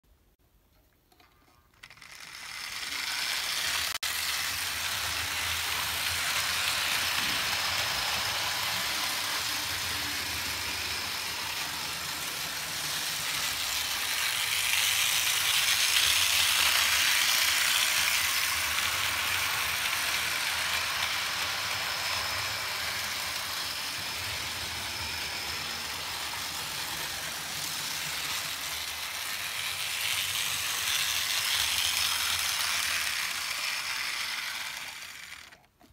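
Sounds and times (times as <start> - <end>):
model train motor whirring: 1.5 - 35.9.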